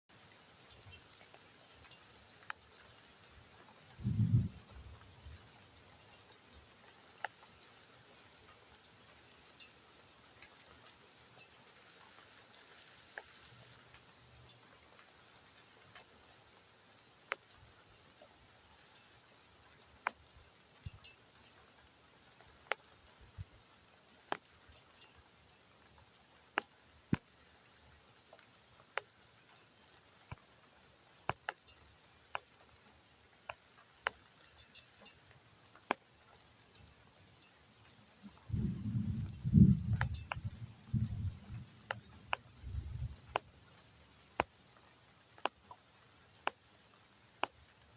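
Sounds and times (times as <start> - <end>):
light rain hiss: 0.1 - 47.9
single raindrops landing: 0.1 - 47.9.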